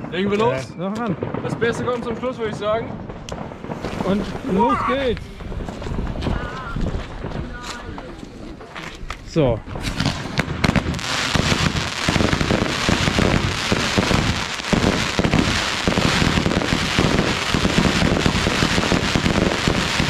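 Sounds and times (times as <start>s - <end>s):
fireworks battery firing: 0.0s - 8.9s, 9.7s - 20.0s.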